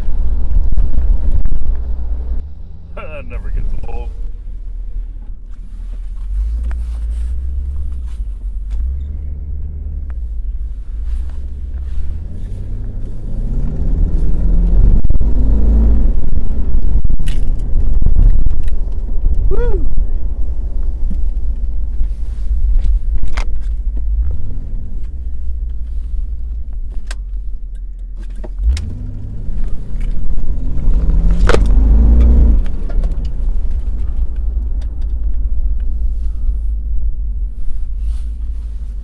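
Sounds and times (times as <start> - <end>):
car engine rumbling: 0.0 - 39.0.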